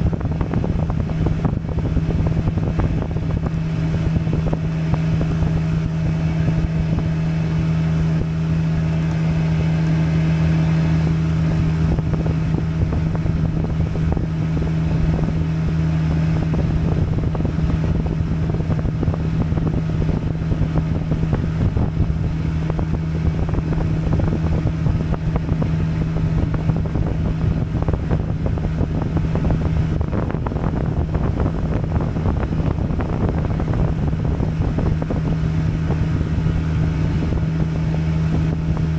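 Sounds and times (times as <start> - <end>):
boat motor humming: 0.0 - 38.9
wind noise on microphone: 0.0 - 38.9.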